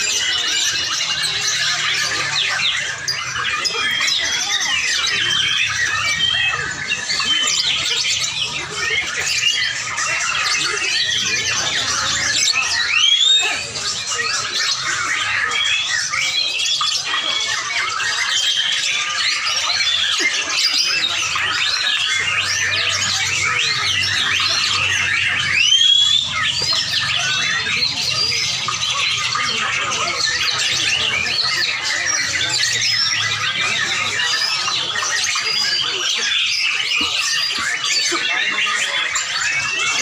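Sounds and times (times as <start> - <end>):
lovebirds chirping and squeaking: 0.0 - 40.0.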